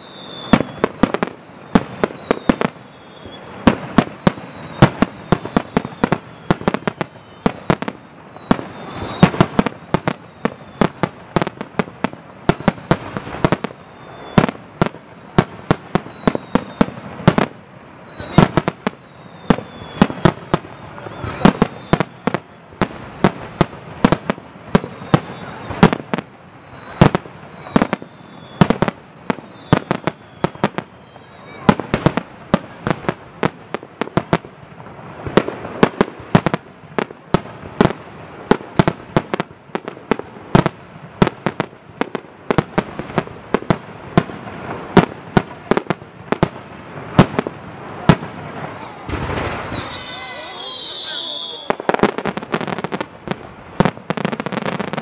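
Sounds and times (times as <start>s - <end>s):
falling firework whistles: 0.0s - 55.0s
fireworks bangs: 0.0s - 55.0s.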